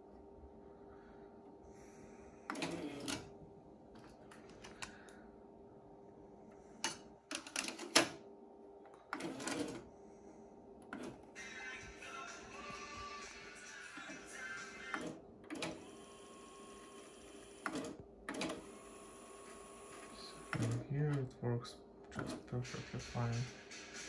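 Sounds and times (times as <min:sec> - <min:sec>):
faint steady hum: 0:00.0 - 0:23.6.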